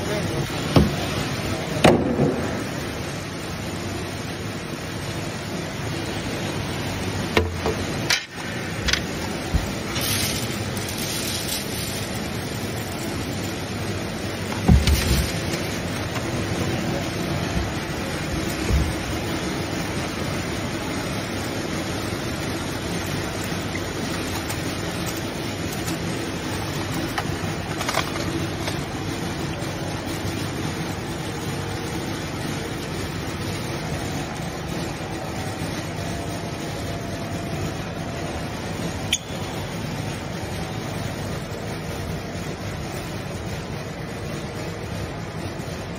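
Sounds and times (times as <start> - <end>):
processing machinery running: 0.0 - 45.9.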